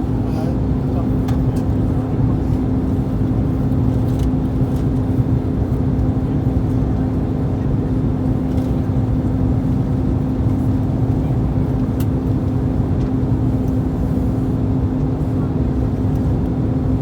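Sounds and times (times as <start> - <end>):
aircraft engine and airflow rumble: 0.0 - 17.0
constant low hum: 0.0 - 17.0.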